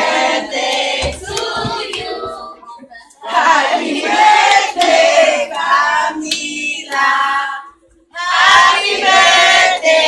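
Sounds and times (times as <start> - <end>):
group singing a celebration song: 0.0 - 10.0.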